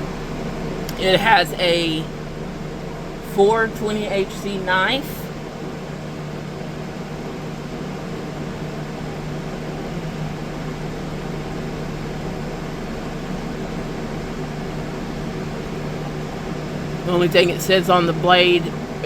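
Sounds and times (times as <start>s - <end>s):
fan hum and hiss: 0.0s - 19.0s.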